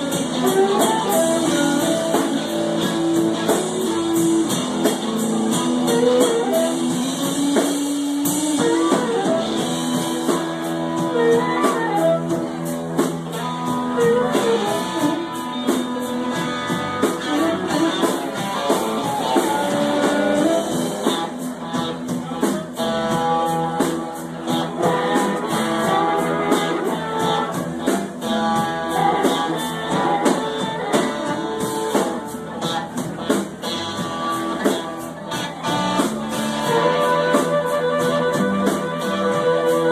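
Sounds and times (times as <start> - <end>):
blues guitar: 0.0 - 39.9
drum-kit beat: 0.0 - 39.9.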